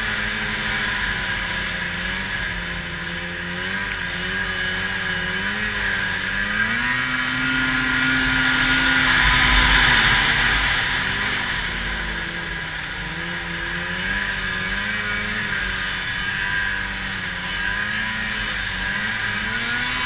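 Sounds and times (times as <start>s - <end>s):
rushing wind and snow: 0.0s - 20.0s
snowmobile engine under throttle: 0.0s - 20.0s.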